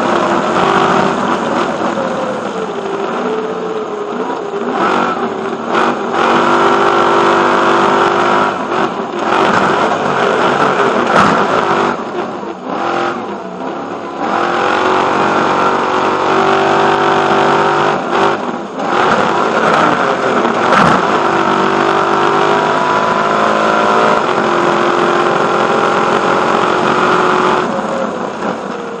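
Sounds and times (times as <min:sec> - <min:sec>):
truck engine at full throttle: 0:00.0 - 0:29.0.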